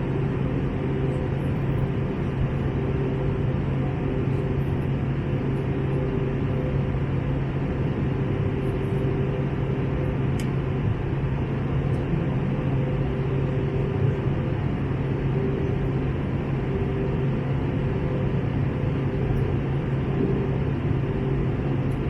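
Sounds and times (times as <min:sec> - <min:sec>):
airflow rushing in cabin: 0:00.0 - 0:22.0
faint steady tones: 0:00.0 - 0:22.0
low engine hum: 0:00.0 - 0:22.0.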